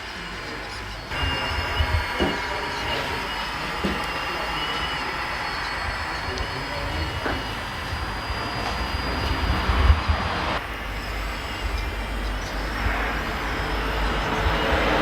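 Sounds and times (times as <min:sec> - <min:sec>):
electric motors whining: 0:00.0 - 0:15.0
rumbling clattering mechanical noise: 0:00.0 - 0:15.0.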